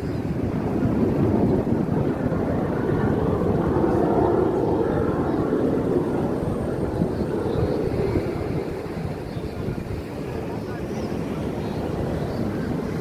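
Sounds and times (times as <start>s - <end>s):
aircraft engine passing overhead: 0.0s - 13.0s
wind on microphone: 0.0s - 13.0s.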